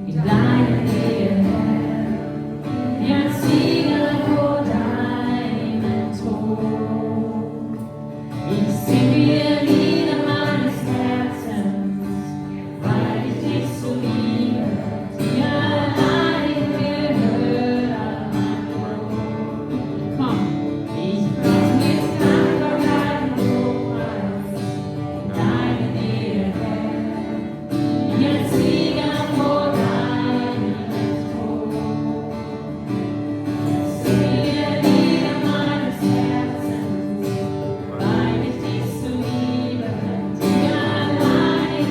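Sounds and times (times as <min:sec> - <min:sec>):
group singing worship song: 0:00.0 - 0:20.1, 0:20.8 - 0:41.9.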